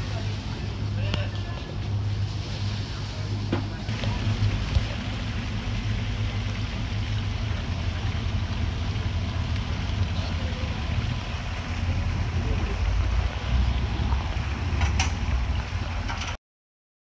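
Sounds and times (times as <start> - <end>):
low rumble: 0.0 - 16.4.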